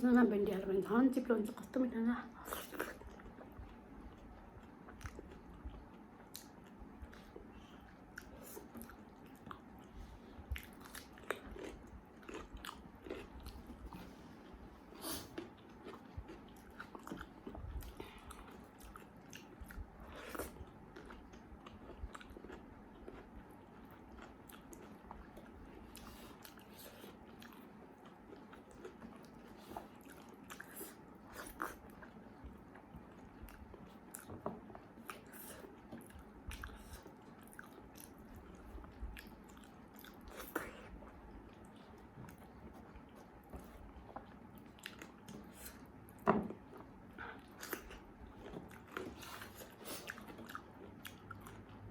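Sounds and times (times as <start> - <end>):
person chewing: 2.4 - 51.9.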